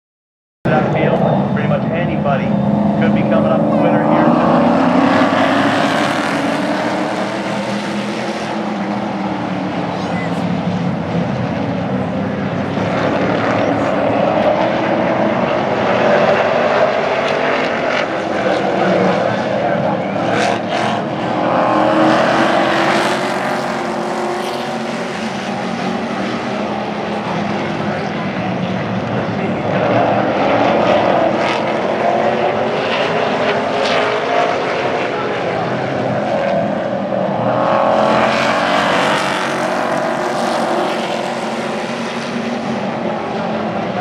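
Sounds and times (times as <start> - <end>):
race truck engines droning: 0.7 - 44.0.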